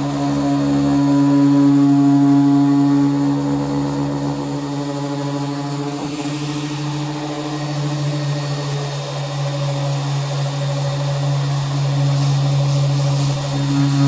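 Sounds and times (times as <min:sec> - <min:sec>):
power sander running: 0:00.0 - 0:14.0.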